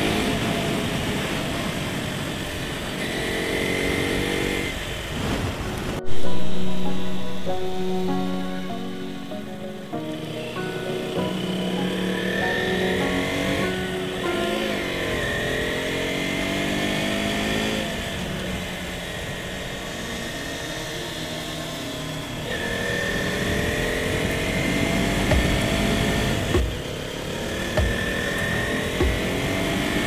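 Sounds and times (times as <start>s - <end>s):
motorcycle engine: 0.0s - 6.0s, 10.3s - 30.0s.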